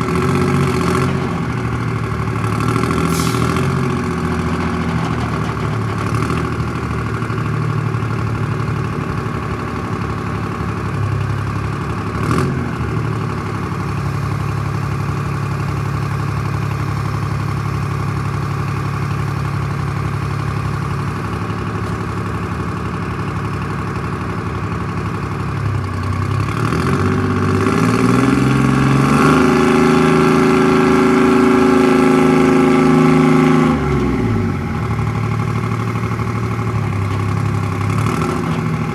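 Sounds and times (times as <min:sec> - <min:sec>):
tracked vehicle engine idling and revving: 0:00.0 - 0:38.9.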